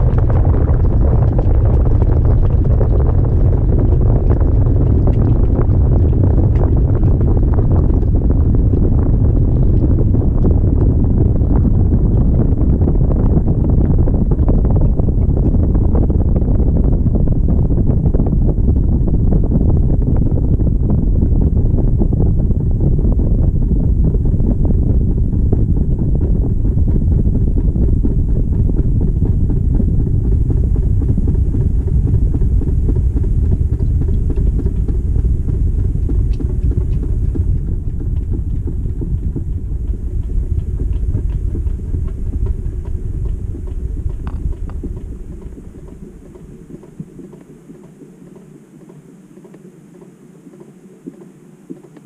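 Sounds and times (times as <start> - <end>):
washing machine drum spinning: 0.0 - 48.6
low hum: 0.0 - 52.0.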